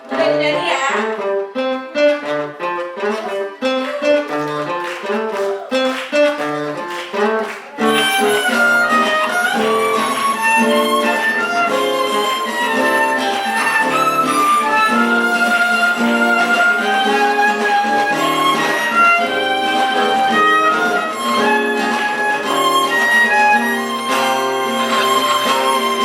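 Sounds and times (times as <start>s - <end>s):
plucked guitar notes: 0.0s - 26.0s.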